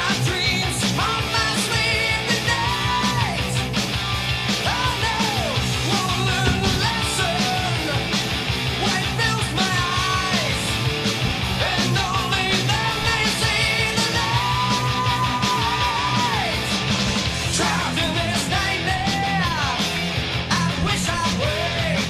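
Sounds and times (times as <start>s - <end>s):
heavy rock song: 0.0s - 22.0s.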